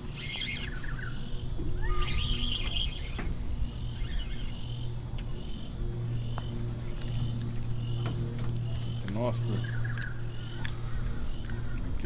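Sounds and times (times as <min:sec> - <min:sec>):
high-pitched insect chorus: 0:00.0 - 0:12.0
low steady hum: 0:00.0 - 0:12.0.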